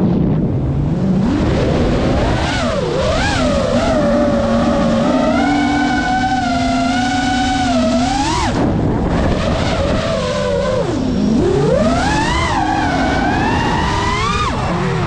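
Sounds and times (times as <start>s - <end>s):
drone motors whining: 0.4s - 15.0s.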